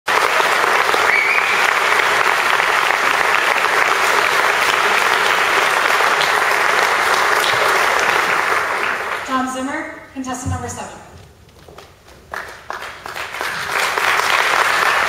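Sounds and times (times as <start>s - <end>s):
audience applauding: 0.1s - 9.3s, 11.7s - 15.0s.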